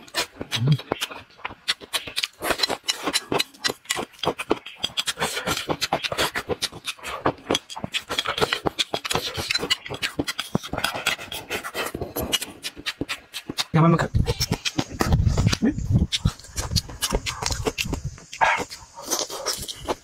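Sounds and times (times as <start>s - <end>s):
man chewing and lip-smacking: 0.0s - 20.0s.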